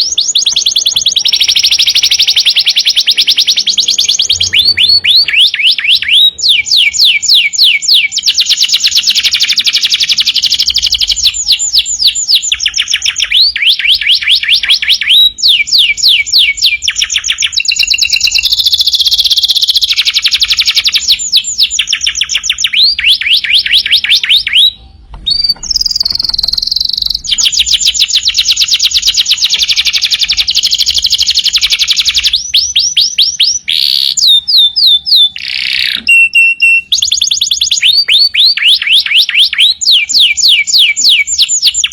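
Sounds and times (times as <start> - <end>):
canary trilling song: 0.0 - 41.9.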